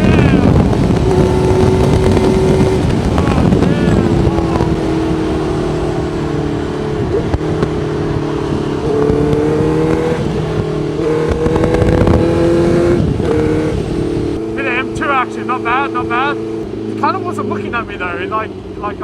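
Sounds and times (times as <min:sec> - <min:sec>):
wind noise: 0:00.0 - 0:16.9
motorcycle engine accelerating: 0:00.0 - 0:19.0.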